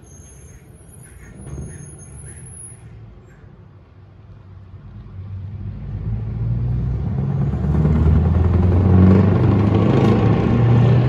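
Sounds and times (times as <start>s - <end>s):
truck engine rumbling under throttle: 0.0s - 11.0s.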